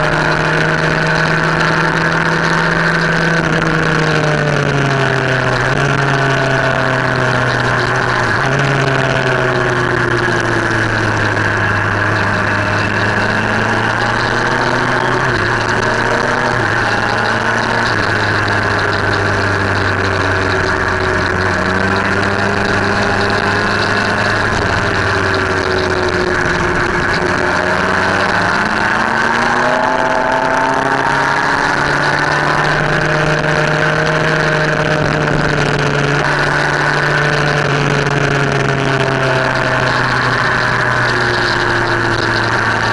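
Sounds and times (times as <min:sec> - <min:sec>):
motorcycle engine revving: 0:00.0 - 0:42.9
wind and road noise: 0:00.0 - 0:42.9.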